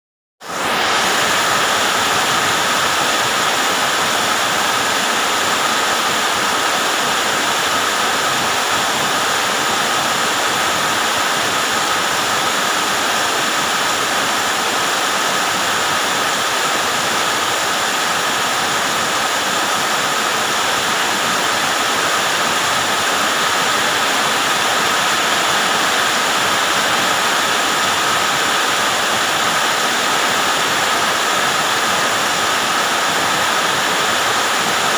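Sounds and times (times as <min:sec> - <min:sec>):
heavy rain on pavement: 0:00.4 - 0:34.9.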